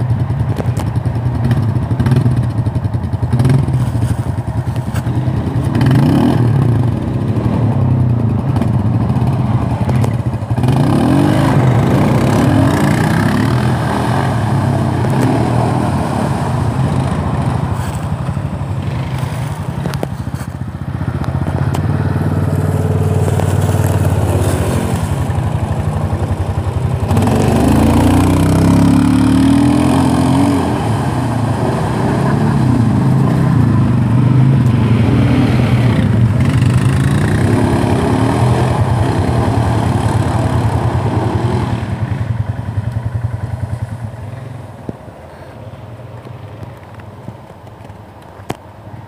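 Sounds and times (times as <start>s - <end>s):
quad engines revving: 0.0s - 45.6s.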